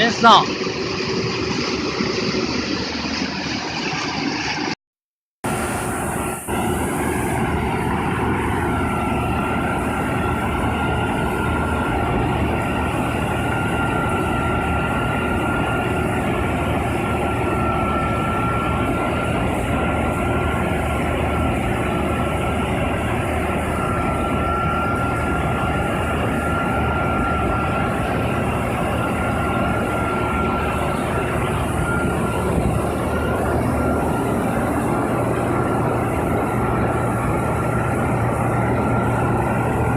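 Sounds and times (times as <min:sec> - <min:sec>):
harvester machine drone: 0:00.0 - 0:04.8, 0:05.4 - 0:39.9
high whine: 0:00.0 - 0:04.8, 0:05.4 - 0:39.9.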